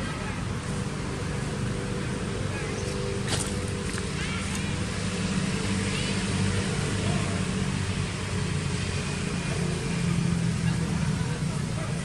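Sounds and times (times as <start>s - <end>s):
engine running with hiss: 0.0s - 12.0s.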